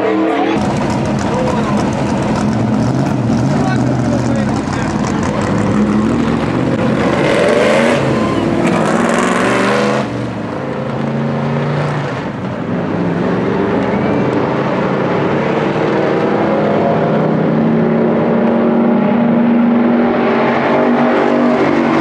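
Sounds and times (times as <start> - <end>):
race car engines accelerating: 0.0 - 22.0.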